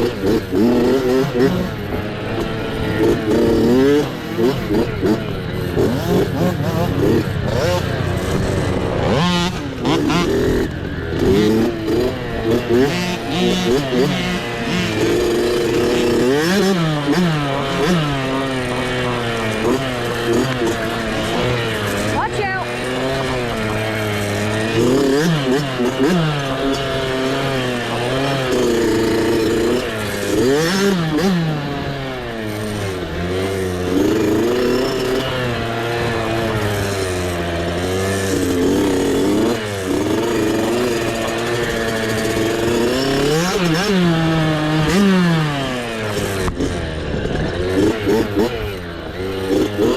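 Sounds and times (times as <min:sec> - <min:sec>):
mini dirt bike engine revving: 0:00.0 - 0:49.9.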